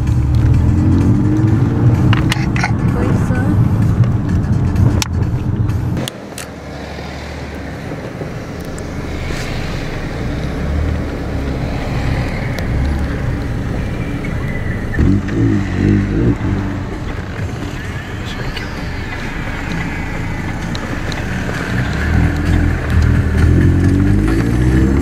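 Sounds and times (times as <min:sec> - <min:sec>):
car engine running at low revs: 0:00.0 - 0:25.0
traffic: 0:00.0 - 0:25.0.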